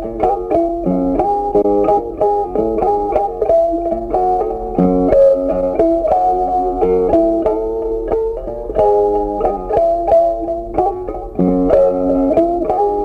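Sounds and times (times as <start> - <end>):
plucked-string melody: 0.0 - 13.0.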